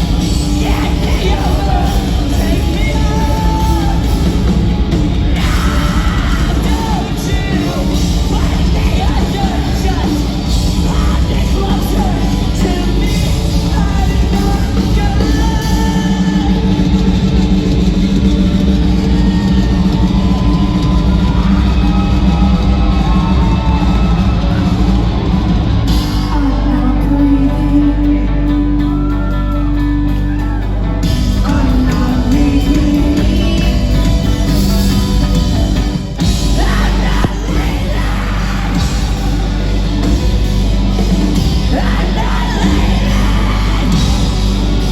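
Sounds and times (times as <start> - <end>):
person singing: 0.0 - 17.5, 25.9 - 44.9
live rock band playing: 0.0 - 44.9.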